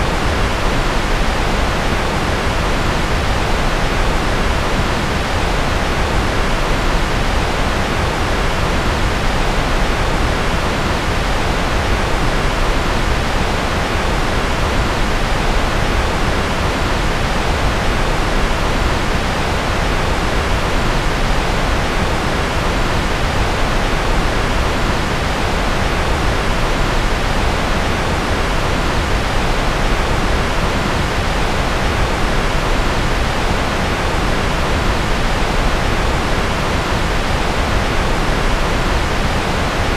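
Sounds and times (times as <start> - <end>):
steady generated noise hiss: 0.0 - 39.9.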